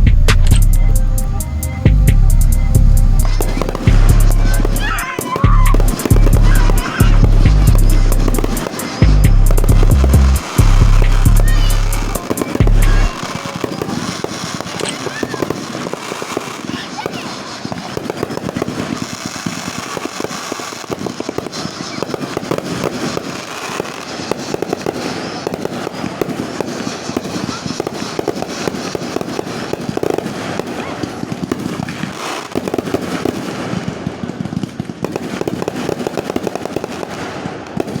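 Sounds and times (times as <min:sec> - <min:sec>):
fireworks popping and crackling: 0:00.0 - 0:38.0.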